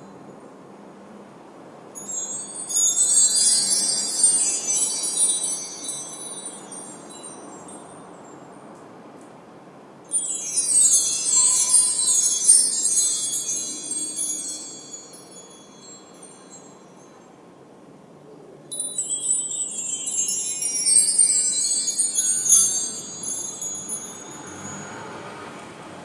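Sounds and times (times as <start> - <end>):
wind chimes jangling: 2.0 - 8.4, 10.1 - 17.3, 18.7 - 26.0.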